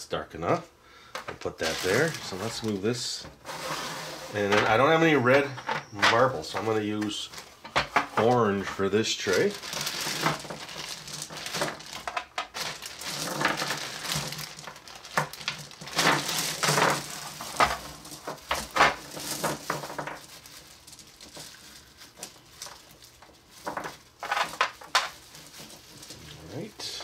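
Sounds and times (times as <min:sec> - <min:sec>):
plastic bag crinkling: 0:01.4 - 0:05.6, 0:06.2 - 0:27.0.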